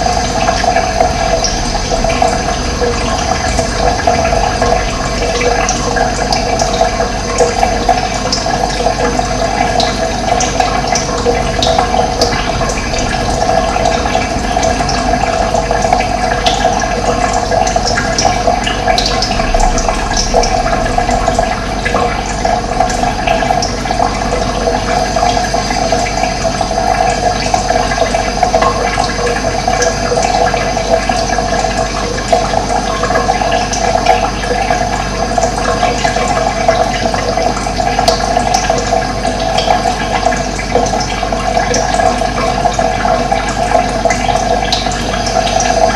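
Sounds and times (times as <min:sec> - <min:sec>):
running water rushing: 0:00.0 - 0:45.9.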